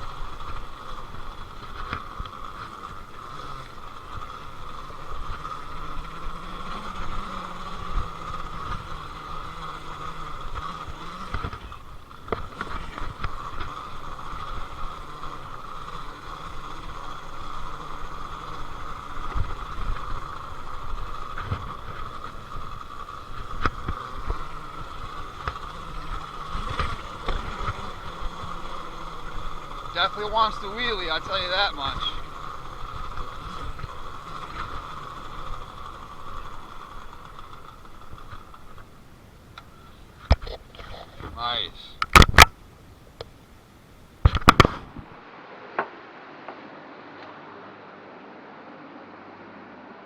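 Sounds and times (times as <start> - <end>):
tyres rumbling on rough ground: 0.0 - 46.8
electric motor whine: 0.0 - 50.0.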